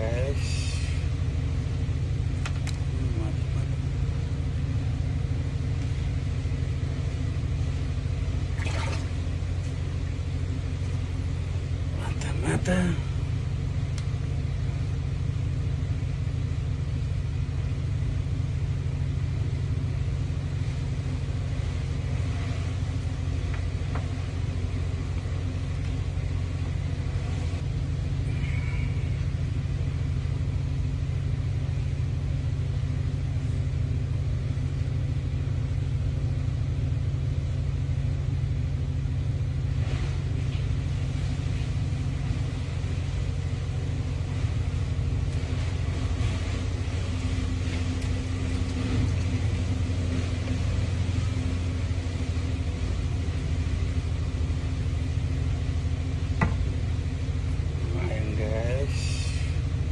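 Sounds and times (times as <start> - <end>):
low rumble of running machinery: 0.0 - 59.9.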